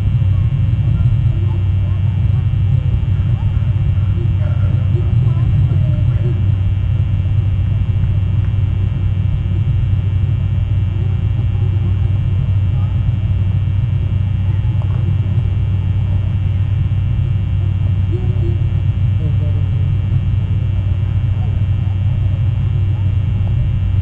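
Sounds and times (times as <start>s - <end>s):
constant low hum: 0.0s - 24.0s
low rumble: 0.0s - 24.0s.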